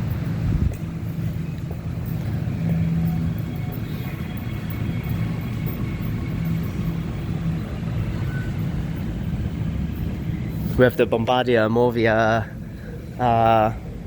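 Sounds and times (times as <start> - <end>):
faint high motor whine: 0.0 - 14.0
train passing rumble: 0.0 - 14.0.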